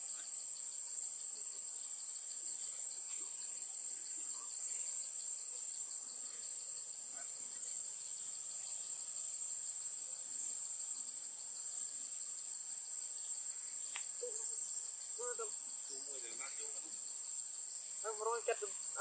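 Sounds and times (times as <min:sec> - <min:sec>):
shrill insect chorus: 0:00.0 - 0:19.0.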